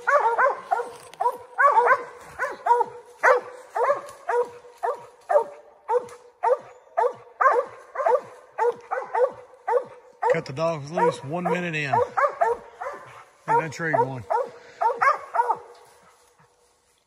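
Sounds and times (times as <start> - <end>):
dog barking: 0.0 - 16.1.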